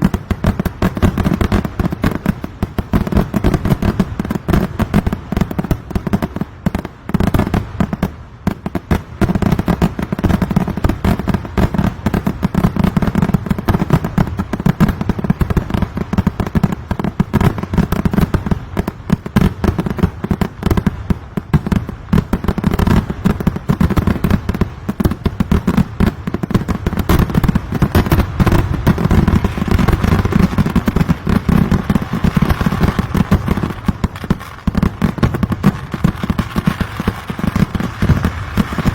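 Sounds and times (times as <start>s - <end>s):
rapid firecracker bangs: 0.0s - 6.4s, 7.0s - 38.9s.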